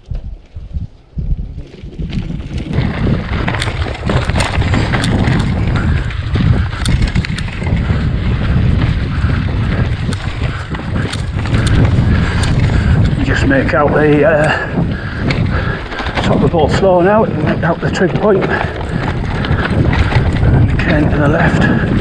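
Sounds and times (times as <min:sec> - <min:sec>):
bike clicks and rattles: 0:00.0 - 0:22.0
tyre rumble: 0:00.0 - 0:22.0
wind buffeting microphone: 0:00.0 - 0:22.0.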